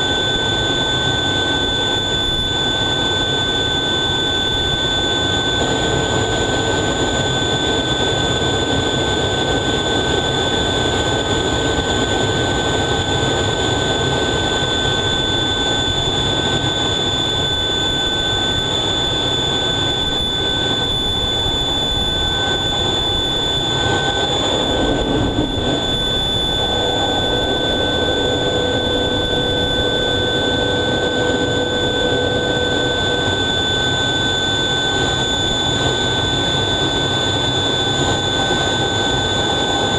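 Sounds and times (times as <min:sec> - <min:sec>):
high whine: 0:00.0 - 0:39.9
jet engines rushing: 0:00.0 - 0:39.9.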